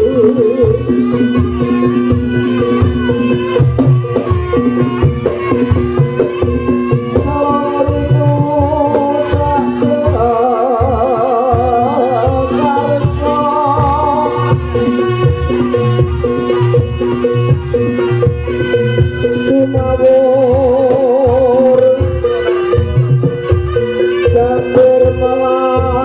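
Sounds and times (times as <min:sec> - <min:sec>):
hand drums beating: 0:00.0 - 0:26.0
wavering melody with vibrato: 0:00.0 - 0:26.0.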